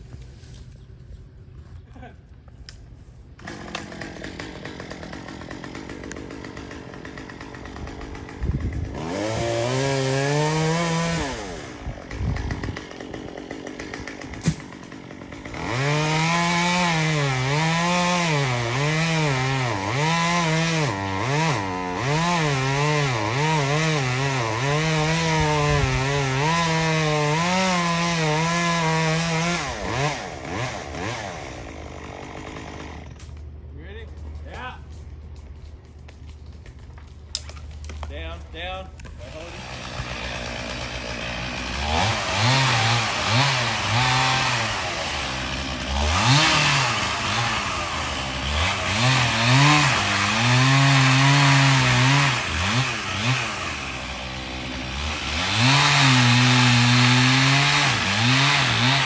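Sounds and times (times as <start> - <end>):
chainsaw idling and revving: 3.4 - 33.4, 39.0 - 59.0
chainsaw cutting wood: 3.4 - 33.5, 39.0 - 59.0.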